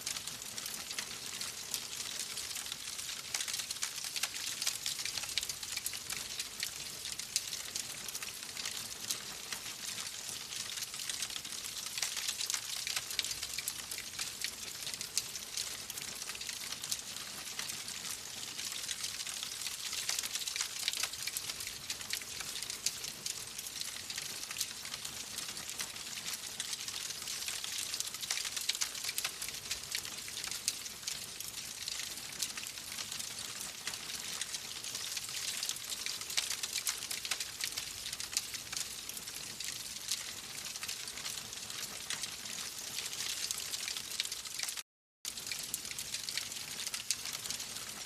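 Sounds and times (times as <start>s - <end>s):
fire crackling and popping: 0.2s - 48.0s.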